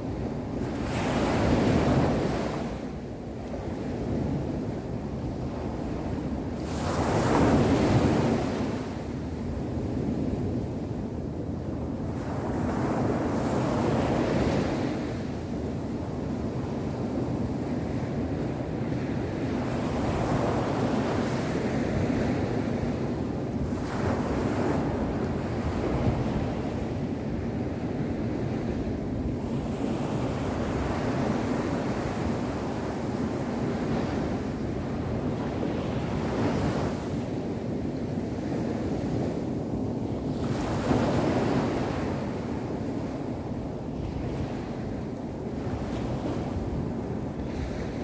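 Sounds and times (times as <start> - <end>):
surf washing on sand beach: 0.0 - 48.0.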